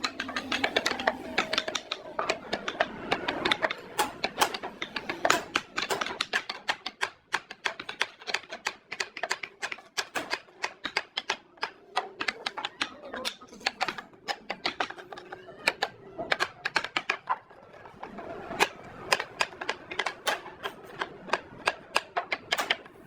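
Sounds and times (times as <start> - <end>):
tapping and clicking on wood: 0.0 - 23.0.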